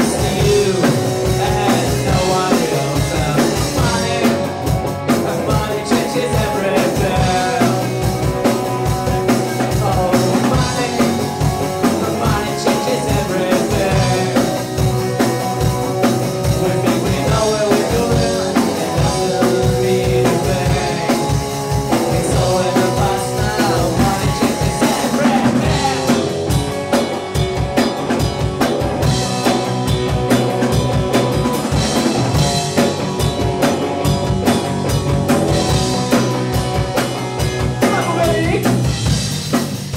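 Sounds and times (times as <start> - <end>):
bass guitar: 0.0 - 39.9
distorted electric guitar: 0.0 - 39.9
drum kit beat: 0.0 - 39.9.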